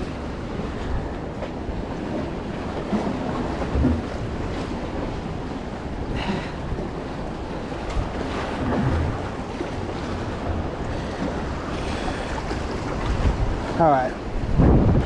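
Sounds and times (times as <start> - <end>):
ocean surf against rocks: 0.0 - 15.0
wind rumbling on microphone: 0.0 - 15.0.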